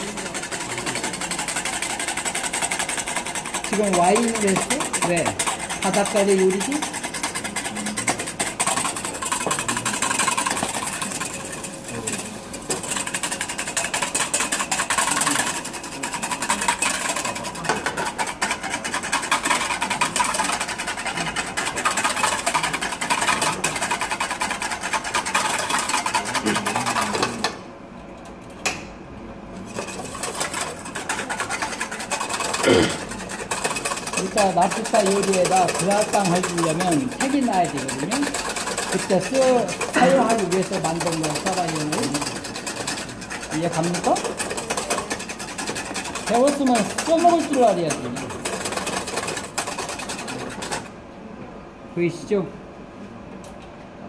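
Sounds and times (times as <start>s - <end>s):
wire whisk scraping metal bowl: 0.0s - 27.7s, 29.6s - 51.0s.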